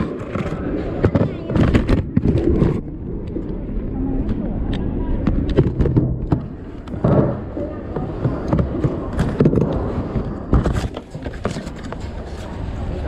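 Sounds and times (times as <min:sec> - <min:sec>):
low rumbling: 0:00.0 - 0:11.3
indistinct voices: 0:00.0 - 0:13.0.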